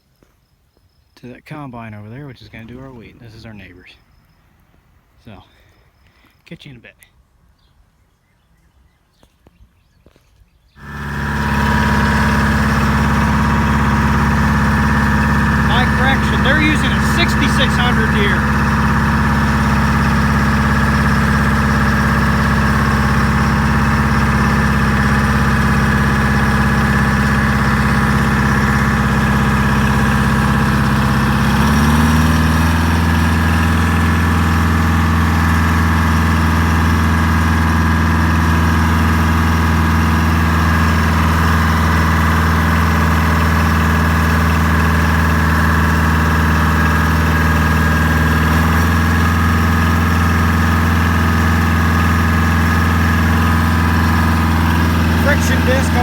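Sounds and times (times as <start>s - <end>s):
truck engine idling: 10.8s - 56.0s.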